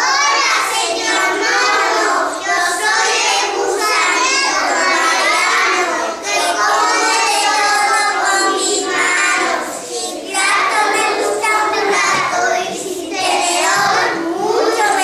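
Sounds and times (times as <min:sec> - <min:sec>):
children singing and chanting: 0:00.0 - 0:15.0.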